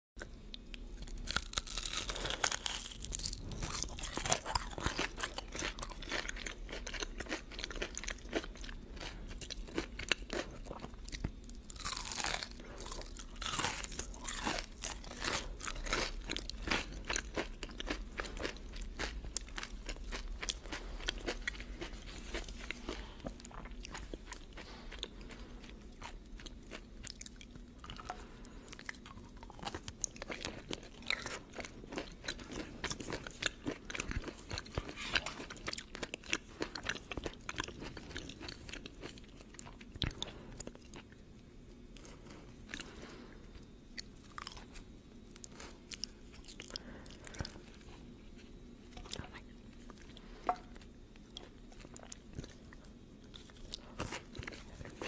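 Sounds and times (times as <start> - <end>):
person chewing crunchy food: 0.2 - 55.0.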